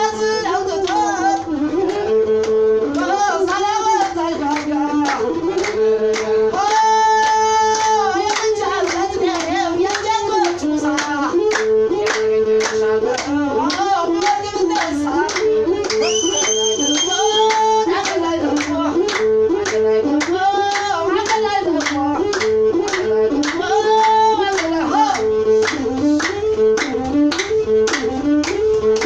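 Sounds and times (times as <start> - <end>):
person singing: 2.9 - 26.3.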